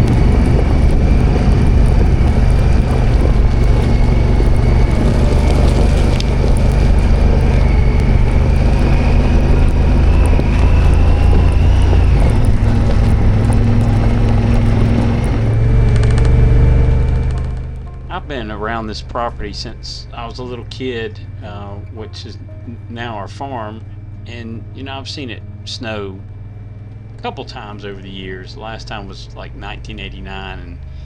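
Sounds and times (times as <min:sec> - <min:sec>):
vehicle engine droning: 0:00.0 - 0:31.0.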